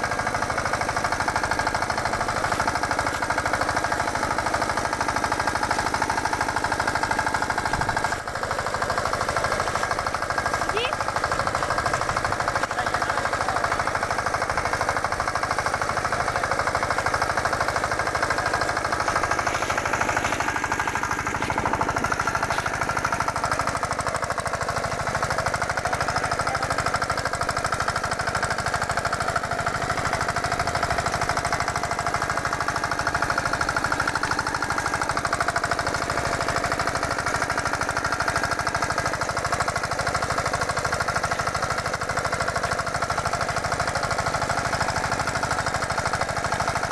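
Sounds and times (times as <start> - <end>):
rotavator engine knocking: 0.0 - 46.9.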